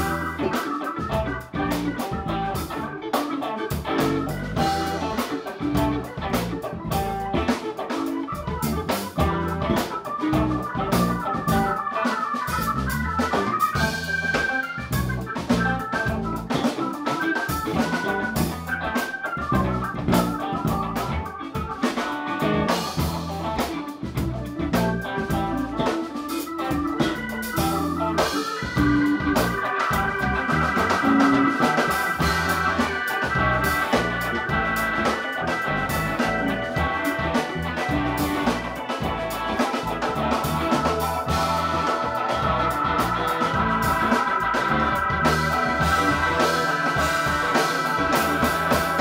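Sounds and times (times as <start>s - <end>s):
drum kit: 0.0s - 49.0s
electric bass: 0.0s - 49.0s
electric guitar: 0.0s - 49.0s
organ: 0.0s - 49.0s.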